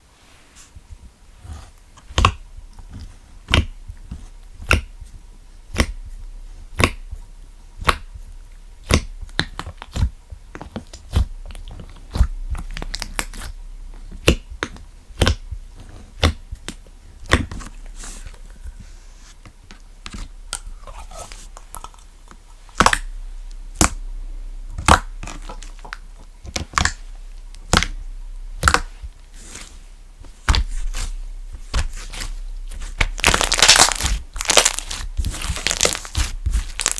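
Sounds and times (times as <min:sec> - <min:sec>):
slime squishing: 0:01.4 - 0:04.9, 0:05.7 - 0:06.1, 0:06.7 - 0:07.1, 0:08.8 - 0:36.9.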